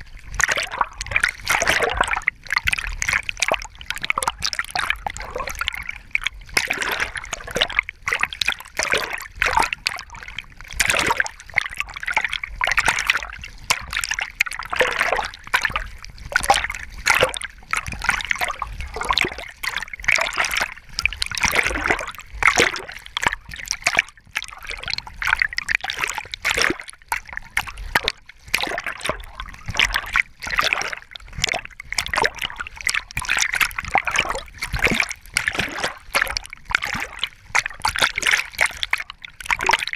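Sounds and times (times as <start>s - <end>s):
water splashing and sloshing: 0.0s - 39.9s.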